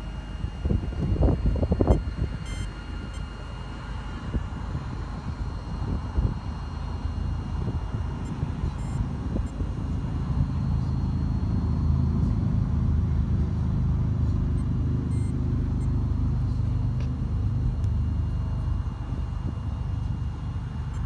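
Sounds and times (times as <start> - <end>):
large vehicle engine idling: 0.0 - 21.0.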